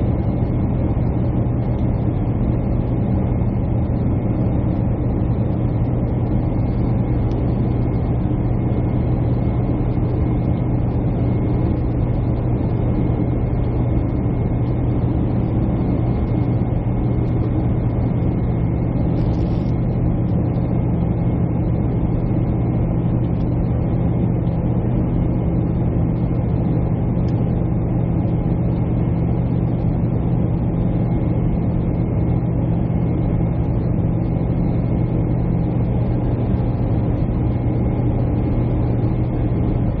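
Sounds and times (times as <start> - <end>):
airliner cabin engine rumble: 0.0 - 40.0.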